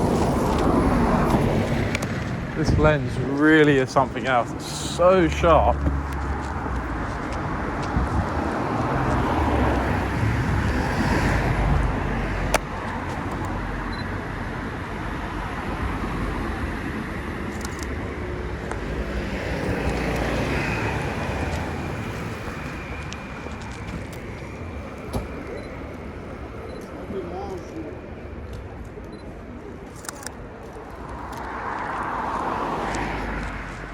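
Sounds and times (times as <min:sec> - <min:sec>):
cars passing: 0:00.0 - 0:33.9.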